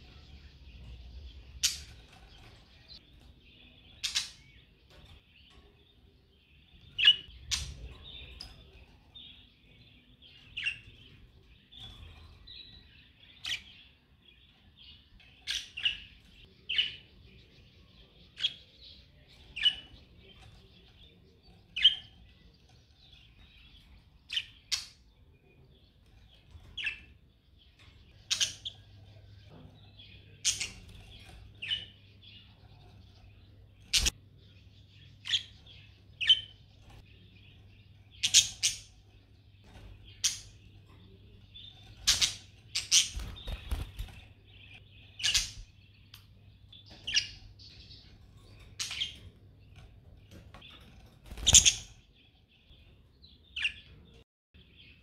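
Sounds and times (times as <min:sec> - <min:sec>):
budgerigars warbling and chirping: 0:00.0 - 0:55.0.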